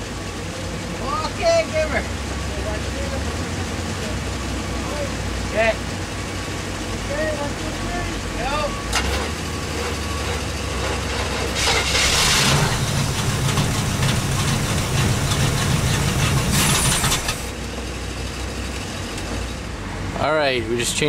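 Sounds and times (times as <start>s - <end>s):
engine cranking by starter: 0.0s - 17.6s.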